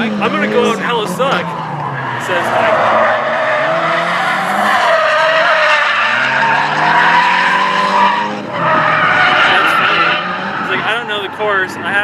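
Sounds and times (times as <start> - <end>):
car engine revving: 0.0 - 12.0
tyres screeching: 0.1 - 11.8.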